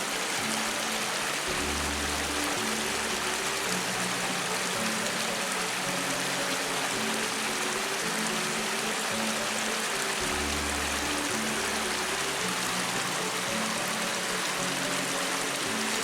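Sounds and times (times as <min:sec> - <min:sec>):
soft background music: 0:00.0 - 0:16.0
stream water rushing: 0:00.0 - 0:16.0.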